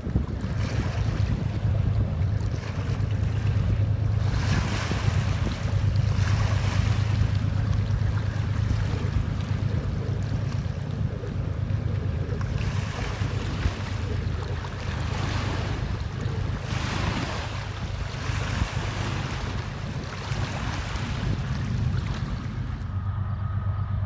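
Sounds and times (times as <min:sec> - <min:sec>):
waves lapping at shore: 0:00.0 - 0:22.9
wind rumble on microphone: 0:00.0 - 0:24.0.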